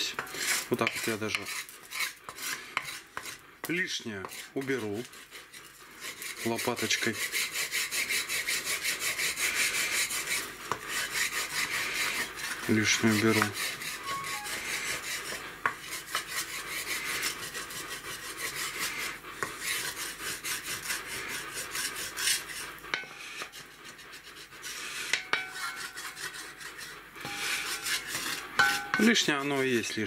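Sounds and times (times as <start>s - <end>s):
wooden spatula scraping cast iron: 0.0s - 30.0s.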